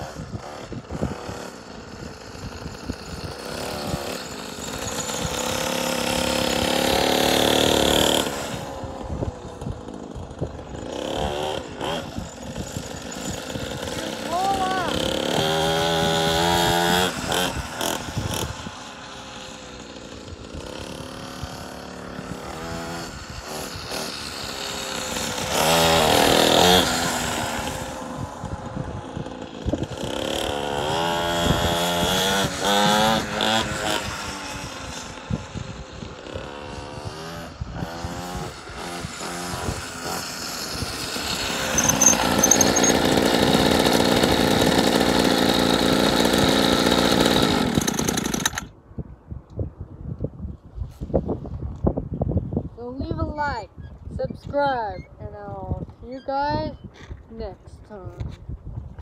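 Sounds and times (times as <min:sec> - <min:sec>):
dirt bike engine revving: 0:00.0 - 0:48.7.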